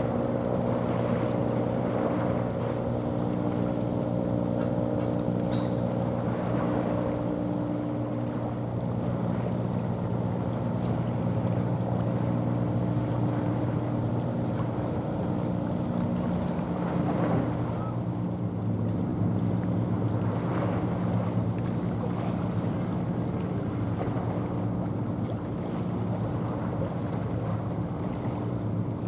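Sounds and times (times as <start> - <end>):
ship engine droning: 0.0 - 29.0.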